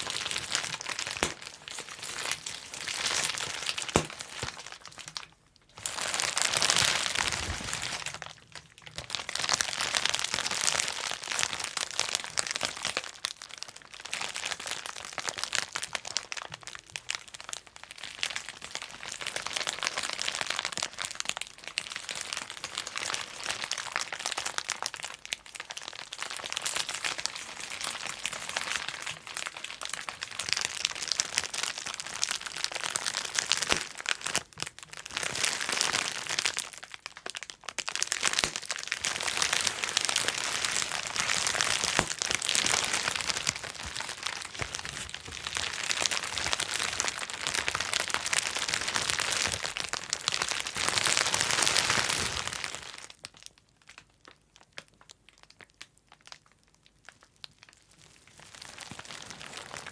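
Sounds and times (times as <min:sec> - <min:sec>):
plastic sheet crinkling: 0:00.0 - 0:53.5, 0:57.6 - 0:59.9
bubble wrap popping: 0:00.0 - 0:59.9.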